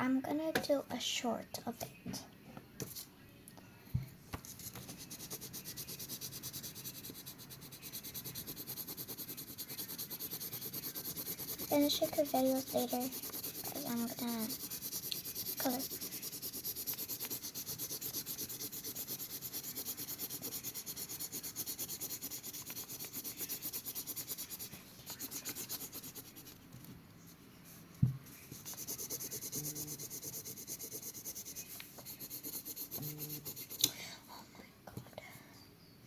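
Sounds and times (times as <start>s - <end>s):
coloring strokes rubbing on paper: 4.4s - 33.9s.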